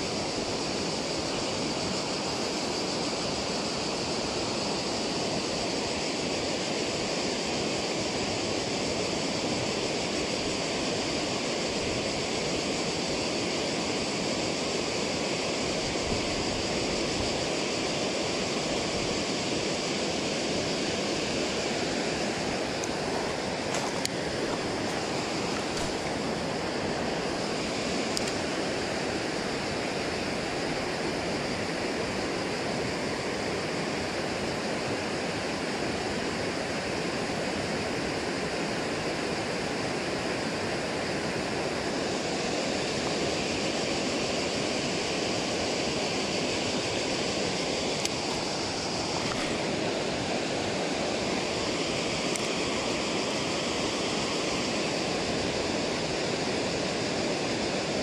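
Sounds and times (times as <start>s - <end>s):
water rushing over weir: 0.0s - 58.0s.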